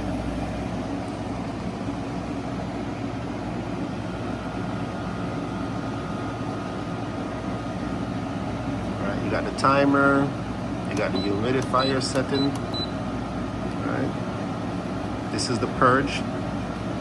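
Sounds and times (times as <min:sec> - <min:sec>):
dehumidifier whirring: 0:00.0 - 0:17.0.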